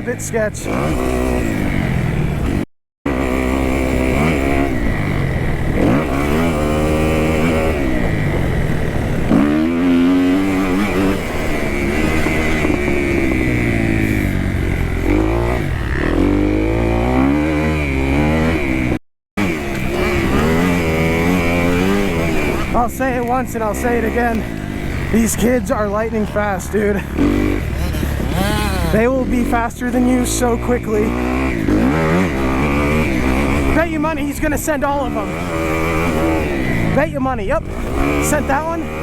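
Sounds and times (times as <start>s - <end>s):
motocross engine revving: 0.0s - 39.0s.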